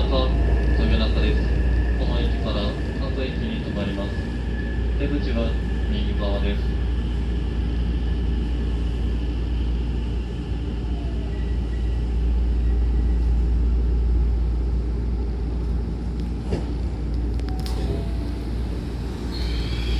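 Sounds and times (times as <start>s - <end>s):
train rumbling: 0.0s - 19.9s.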